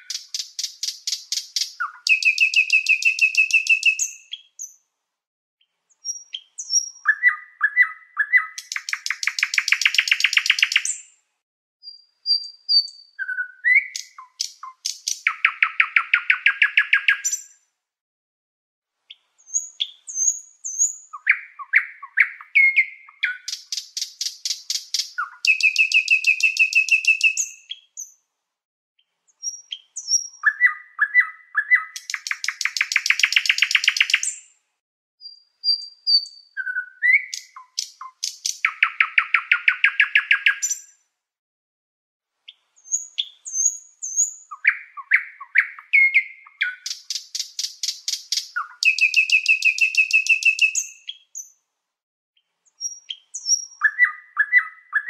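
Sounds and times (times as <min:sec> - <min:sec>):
songbird singing trills and chirps: 0:00.0 - 0:04.8, 0:05.6 - 0:11.2, 0:11.8 - 0:17.6, 0:19.1 - 0:28.2, 0:29.0 - 0:34.5, 0:35.2 - 0:41.0, 0:42.5 - 0:51.6, 0:52.4 - 0:55.0.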